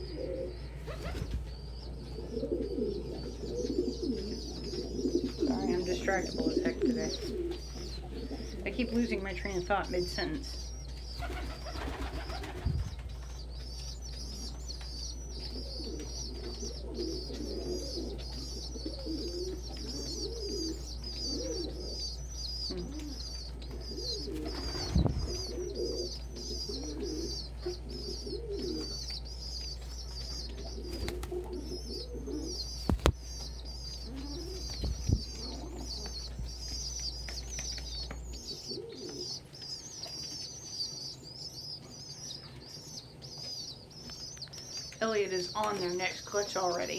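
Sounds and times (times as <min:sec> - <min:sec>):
pigeons cooing: 0:00.0 - 0:46.9
young pigeons peeping: 0:00.0 - 0:46.9.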